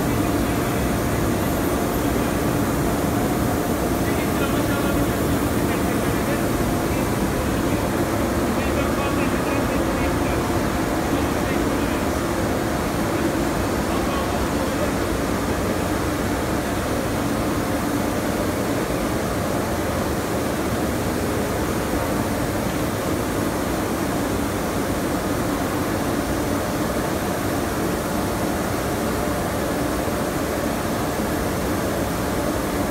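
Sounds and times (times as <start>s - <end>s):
hot-air fans rushing: 0.0s - 32.9s.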